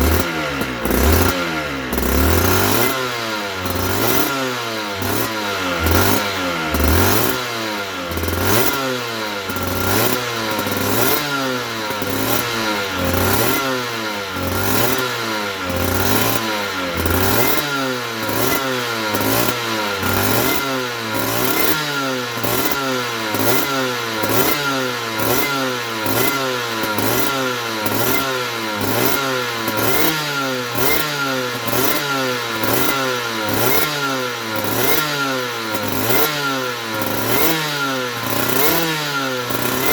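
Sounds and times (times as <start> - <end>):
motorcycle engine revving in blips: 0.0 - 39.9.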